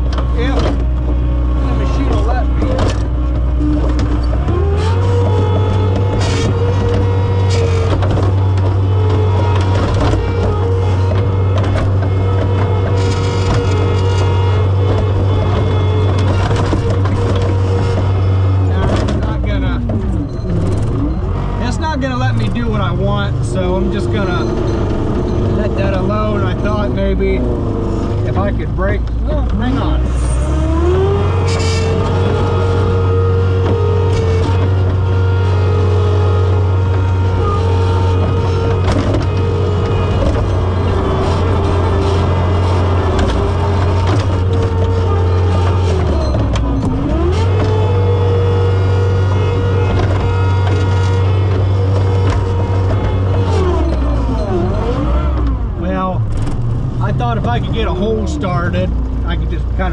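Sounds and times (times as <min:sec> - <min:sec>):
skid steer engine under load: 0:00.0 - 0:59.9.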